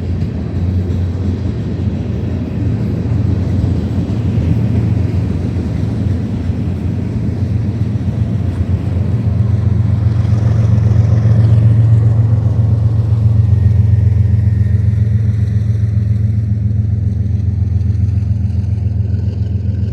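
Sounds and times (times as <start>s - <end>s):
freight train rumbling past: 0.0s - 19.9s.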